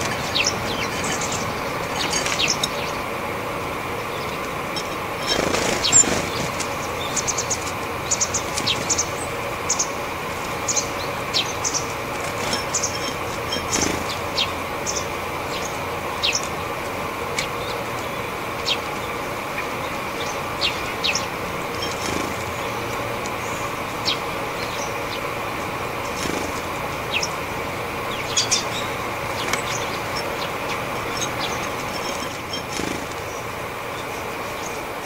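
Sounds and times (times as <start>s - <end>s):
steady background hum: 0.0s - 35.0s
wings fluttering: 0.0s - 35.0s.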